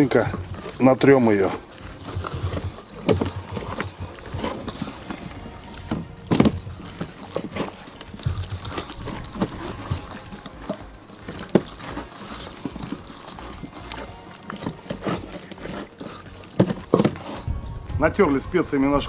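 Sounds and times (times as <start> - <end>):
hands squelching raw chicken: 0.0 - 17.5.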